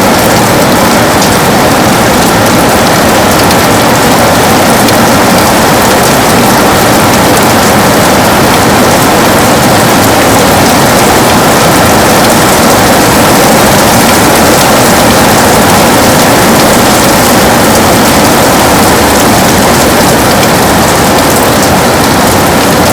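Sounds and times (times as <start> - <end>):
heavy rain on a window: 0.0 - 22.9.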